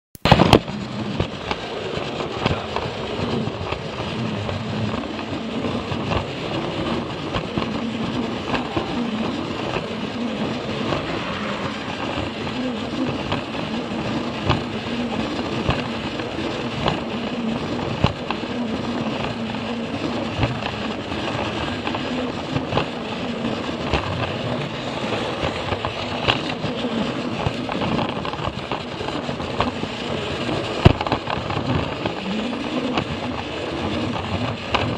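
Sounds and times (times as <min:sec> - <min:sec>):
wheels clicking on track joints: 0:00.3 - 0:34.9
toy train motor whirring: 0:00.5 - 0:34.9.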